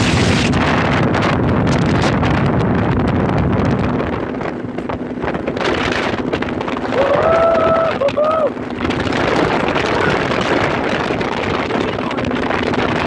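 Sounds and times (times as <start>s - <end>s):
boat motor drone: 0.0s - 13.0s
wind buffeting microphone: 0.0s - 13.0s.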